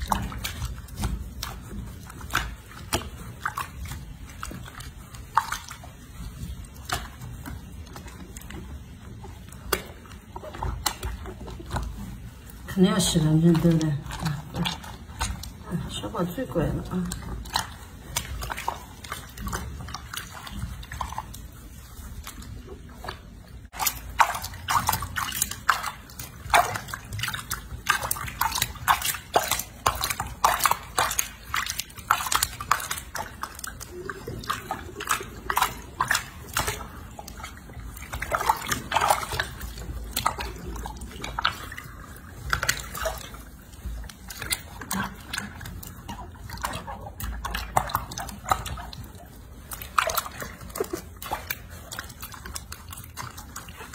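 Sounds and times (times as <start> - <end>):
water splashing in a basin: 0.0 - 53.9.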